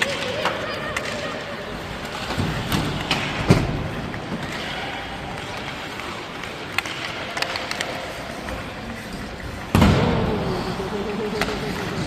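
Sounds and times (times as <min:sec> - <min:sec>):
hockey sticks and puck clacking: 0:00.0 - 0:12.0
ice rink noise: 0:00.0 - 0:12.0.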